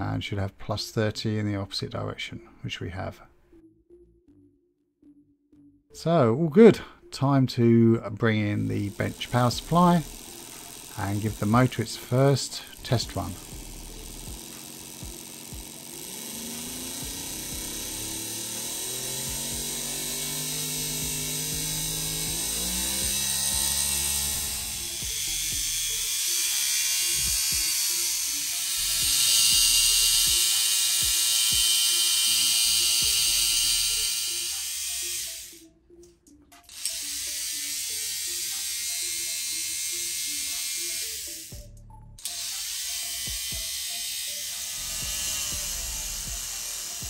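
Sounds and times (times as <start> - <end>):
electric motor humming: 8.3 - 35.7, 36.7 - 47.0.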